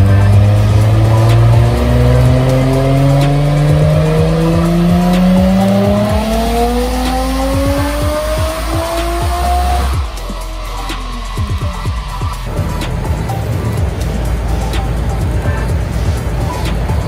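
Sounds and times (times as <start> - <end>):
car engine revving on dyno: 0.0 - 17.0.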